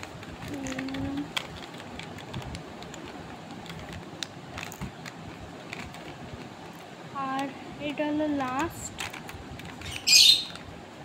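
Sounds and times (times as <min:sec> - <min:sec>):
puzzle cube clicking: 0:00.0 - 0:07.5, 0:08.4 - 0:10.7.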